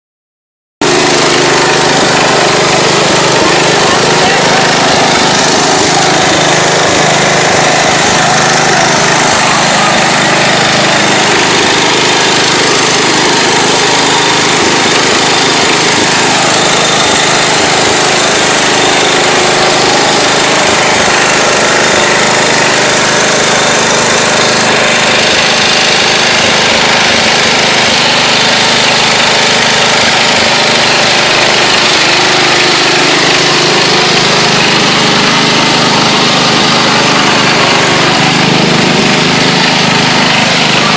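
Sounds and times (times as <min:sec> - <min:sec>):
small tractor engine running: 0:00.8 - 0:40.9.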